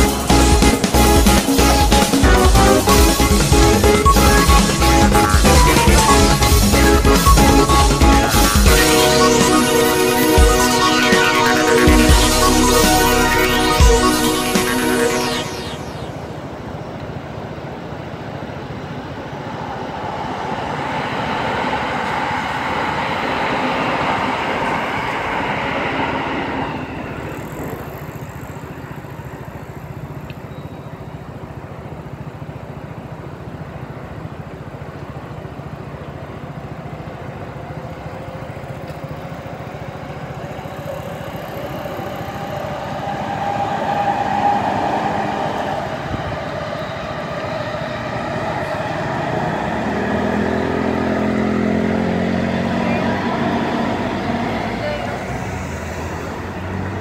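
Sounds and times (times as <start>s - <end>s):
electric trains running: 0.0s - 57.0s.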